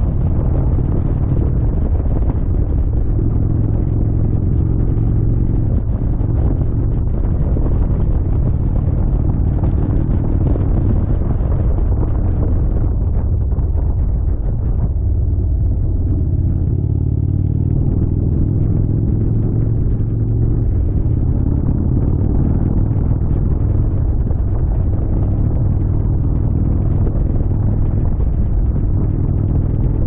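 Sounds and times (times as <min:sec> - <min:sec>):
motorcycle engine rumble: 0:00.0 - 0:30.0
road and wind noise: 0:00.0 - 0:30.0.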